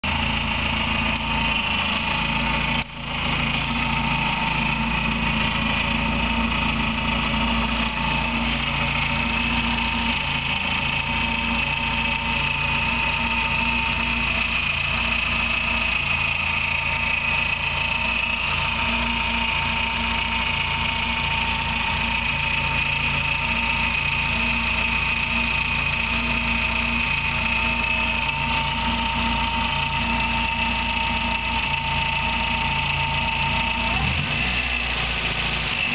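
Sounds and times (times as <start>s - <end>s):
car engine idling: 0.0s - 35.9s
high chirp in engine: 0.0s - 35.9s.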